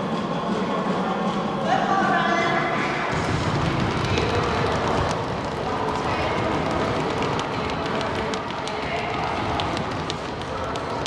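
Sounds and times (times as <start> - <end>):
workout music over a loudspeaker: 0.0 - 11.0.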